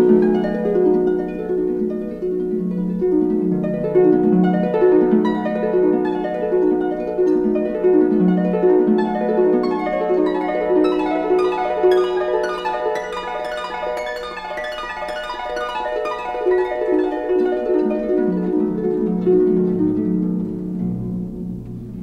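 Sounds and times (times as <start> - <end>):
harp-like plucked arpeggios: 0.0 - 22.0.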